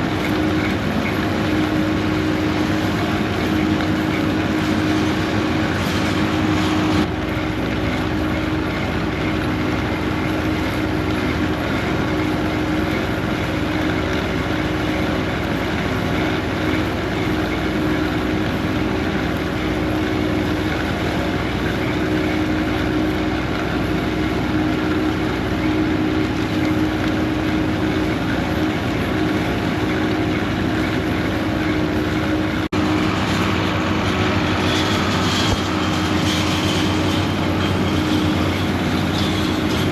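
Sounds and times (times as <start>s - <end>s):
motor drone with constant hum: 0.0s - 39.9s.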